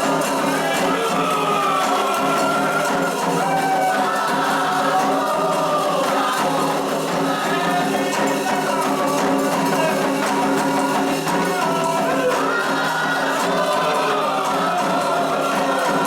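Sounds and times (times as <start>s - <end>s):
group of voices singing: 0.0s - 16.0s
hand percussion: 0.0s - 16.0s
jingling shaker: 0.0s - 16.0s.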